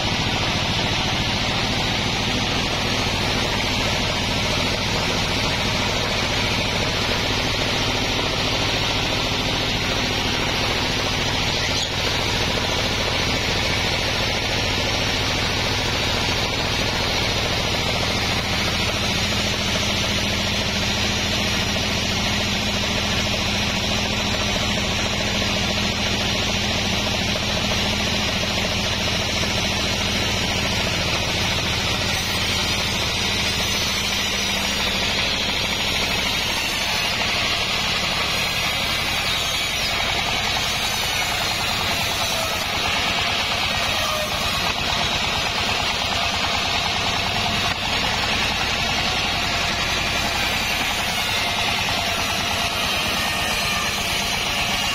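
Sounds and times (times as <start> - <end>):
motor humming: 0.0 - 54.9
saw blade hissing and whining: 0.0 - 54.9.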